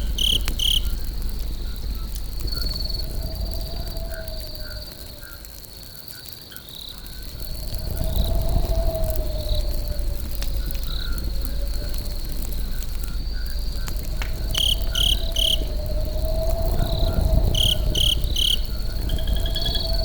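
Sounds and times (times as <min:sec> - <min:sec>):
campfire rumbling: 0:00.0 - 0:20.0
crickets trilling: 0:00.0 - 0:20.0
fire crackles: 0:00.0 - 0:20.0
loud cricket chirps: 0:00.0 - 0:20.0.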